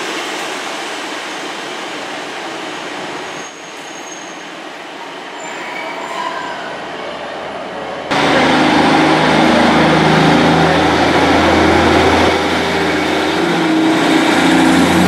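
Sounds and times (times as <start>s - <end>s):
train pulling into platform: 0.0s - 15.0s
train running on track: 0.0s - 15.0s.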